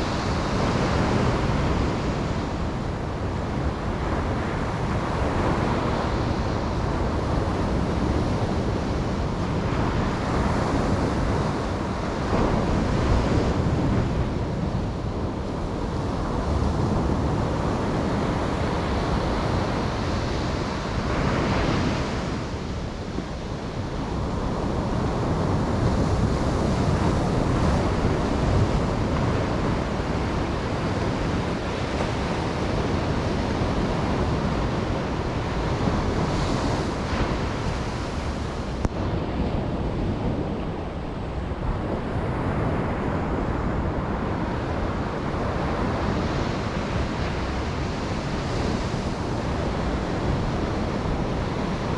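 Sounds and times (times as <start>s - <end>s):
ocean waves breaking on beach: 0.0s - 51.9s
wind noise on microphone: 0.0s - 51.9s.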